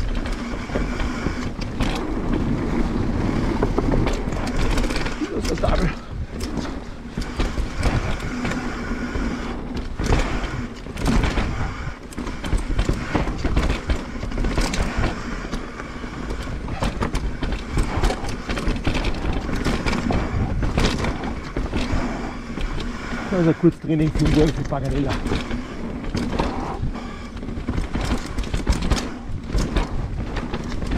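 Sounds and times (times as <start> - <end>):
bike rattles and knocks: 0.0 - 30.9
bike tyres rolling on dirt: 0.0 - 30.9
wind rumble on camera: 0.0 - 30.9.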